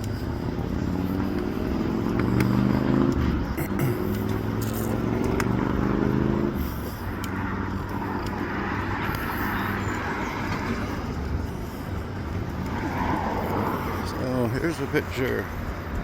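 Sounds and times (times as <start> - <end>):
engine hum: 0.0 - 16.0
traffic road noise rushing: 0.0 - 16.0.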